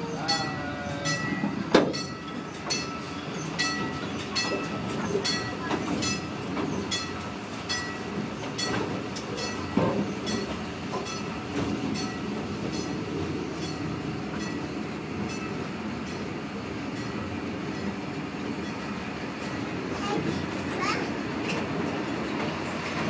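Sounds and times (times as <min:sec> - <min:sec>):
train wheels rumbling on track: 0:00.0 - 0:23.0
wheels clicking over rail joints: 0:00.3 - 0:23.0.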